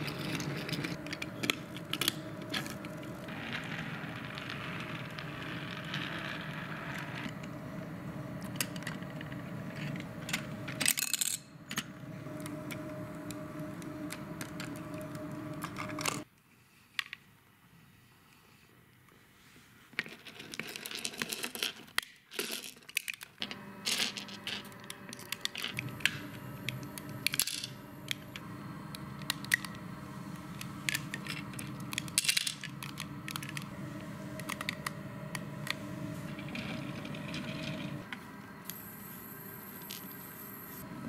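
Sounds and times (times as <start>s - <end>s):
steady low hum: 0.0s - 16.3s, 23.5s - 41.0s.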